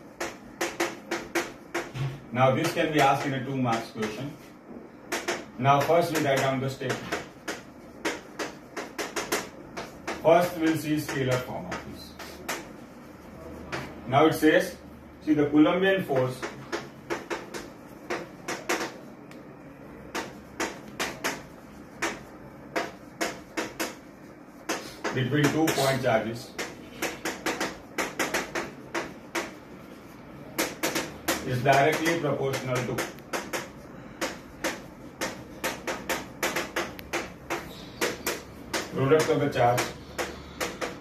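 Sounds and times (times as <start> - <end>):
chalk tapping on chalkboard: 0.0 - 41.0.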